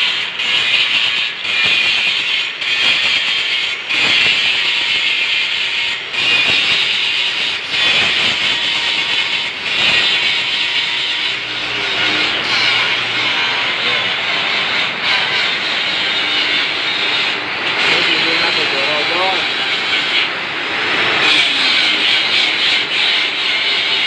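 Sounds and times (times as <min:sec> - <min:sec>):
arc welder hissing: 0:00.0 - 0:24.0.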